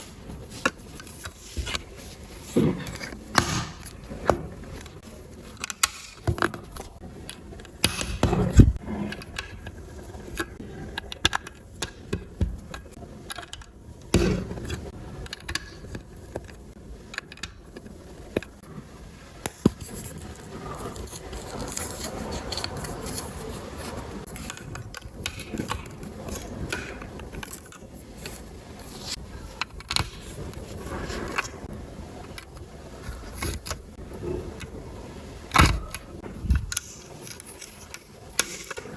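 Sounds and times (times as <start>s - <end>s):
plastic bricks scraping and rustling: 0.0s - 18.7s, 19.4s - 34.8s, 35.6s - 38.9s.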